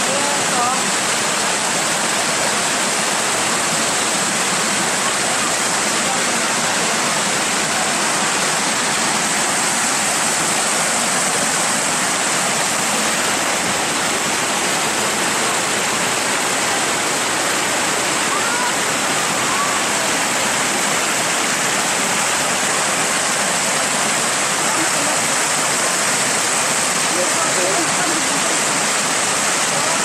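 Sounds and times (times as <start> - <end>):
water rushing over cascades: 0.0 - 30.0.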